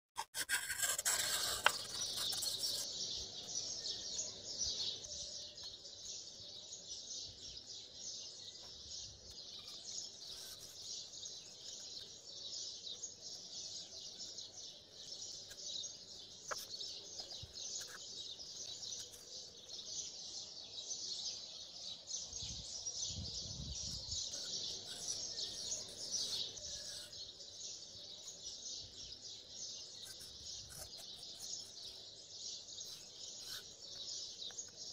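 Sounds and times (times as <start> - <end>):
birds chirping: 0.4 - 34.9.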